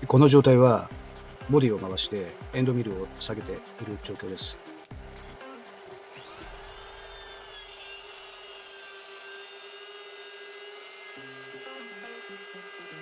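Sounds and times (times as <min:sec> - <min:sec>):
quiet background music: 0:00.0 - 0:13.0
trimmer motor whine: 0:00.0 - 0:13.0
end mill grinding antler: 0:00.7 - 0:13.0.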